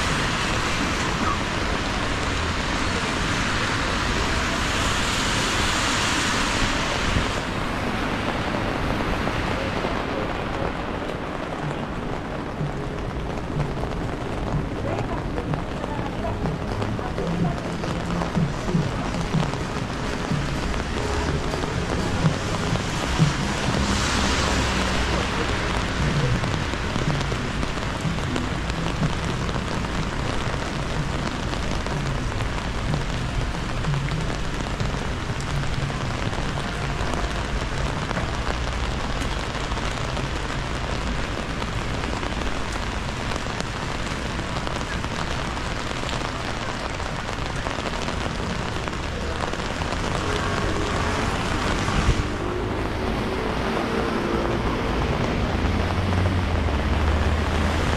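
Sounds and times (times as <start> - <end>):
low rumble: 0.0 - 57.9
rain on wet pavement: 0.0 - 57.9
rain pattering on umbrella: 0.0 - 57.9.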